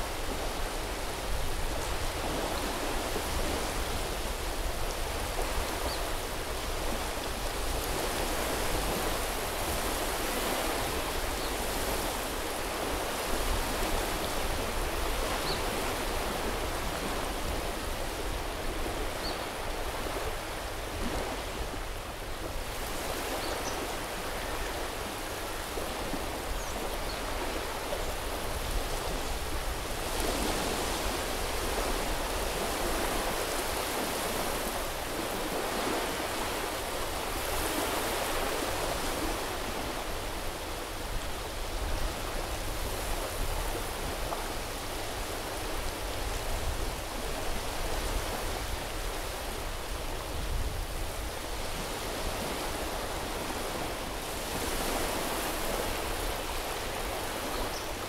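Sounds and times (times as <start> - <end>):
small waves washing onto beach: 0.0 - 58.0.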